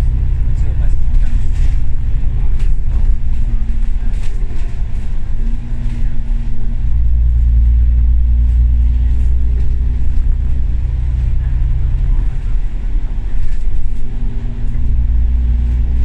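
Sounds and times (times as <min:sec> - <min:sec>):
bus diesel engine drone: 0:00.0 - 0:16.0
road and body rumble: 0:00.0 - 0:16.0.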